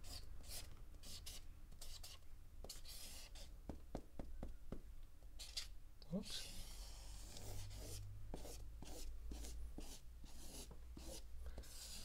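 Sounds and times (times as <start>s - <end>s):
marker scratching on paper: 0.0s - 3.5s, 5.4s - 12.0s.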